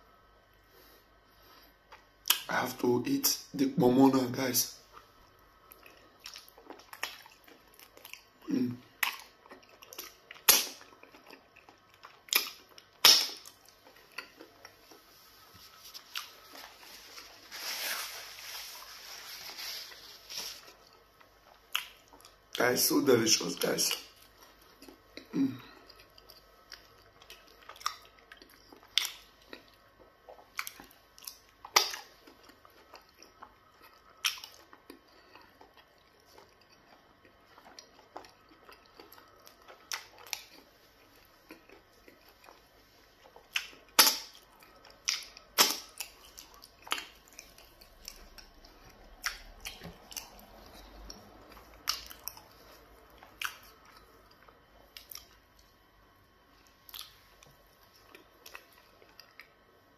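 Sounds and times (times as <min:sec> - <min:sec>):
person chewing: 0:04.8 - 0:22.6, 0:23.9 - 0:59.7.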